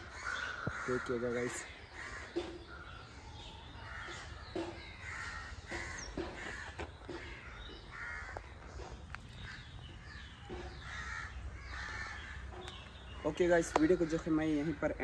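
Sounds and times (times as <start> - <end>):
crows cawing: 0.0 - 13.2.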